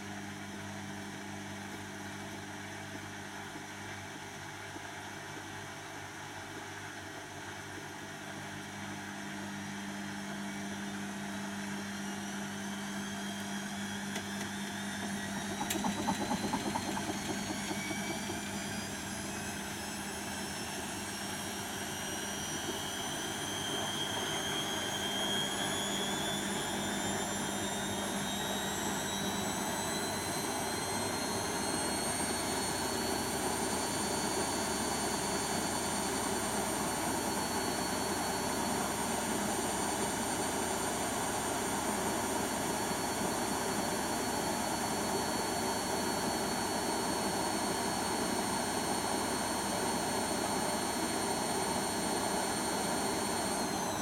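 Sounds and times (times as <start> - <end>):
washing machine motor whine: 0.0 - 54.0.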